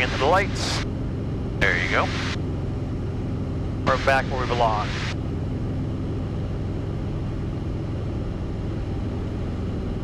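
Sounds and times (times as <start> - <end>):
airplane engine and propeller drone: 0.0 - 10.0.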